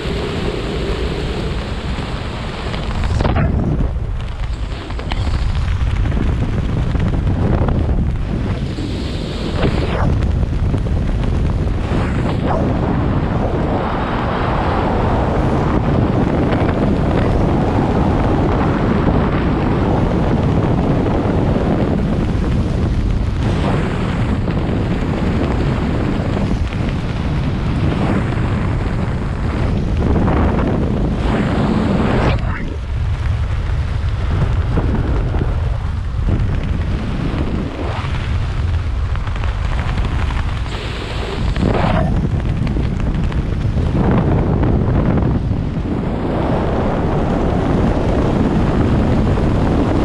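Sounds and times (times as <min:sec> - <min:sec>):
wind roar on microphone: 0:00.0 - 0:50.0.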